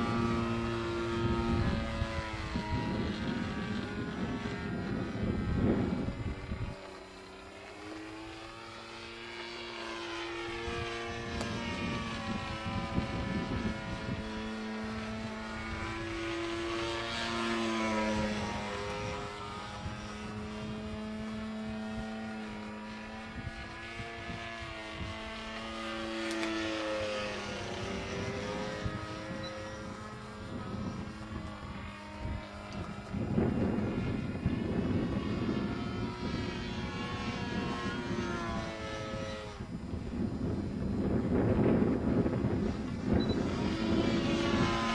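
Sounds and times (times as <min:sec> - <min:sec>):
propeller plane droning overhead: 0:00.0 - 0:44.9.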